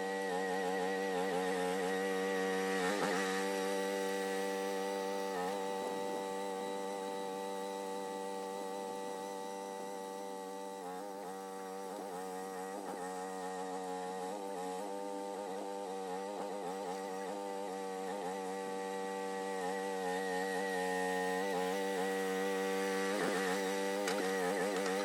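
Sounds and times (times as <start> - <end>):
mini excavator engine running: 0.0 - 18.4, 19.2 - 25.0.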